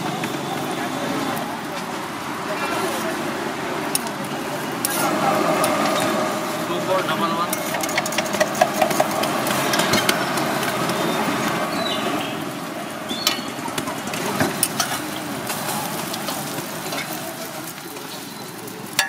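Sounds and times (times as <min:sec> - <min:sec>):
food stall hum and hiss: 0:00.0 - 0:19.0.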